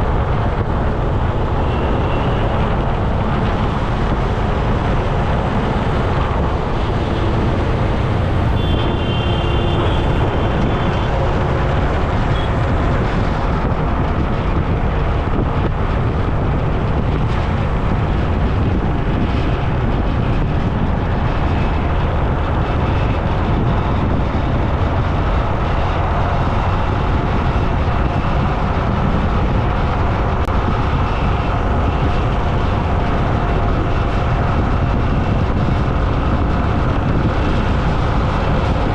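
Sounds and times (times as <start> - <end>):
road noise while riding: 0.0 - 38.9
wind rumbling on microphone: 0.0 - 38.9.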